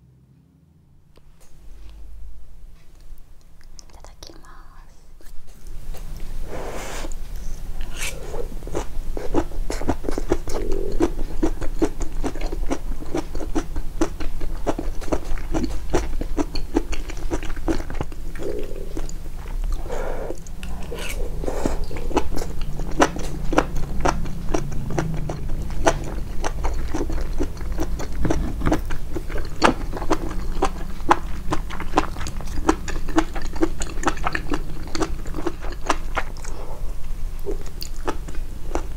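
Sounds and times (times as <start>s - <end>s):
close chewing and biting food: 5.2s - 38.9s.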